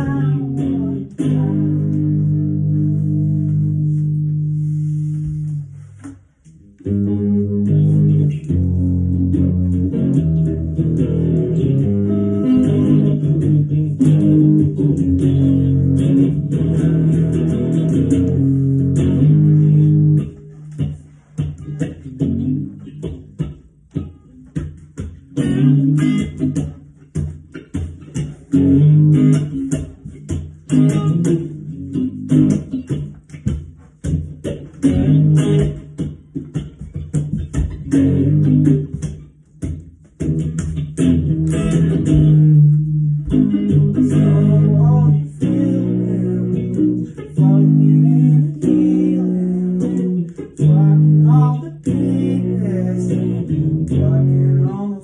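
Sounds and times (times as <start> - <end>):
electric guitar strumming: 0.0 - 55.0.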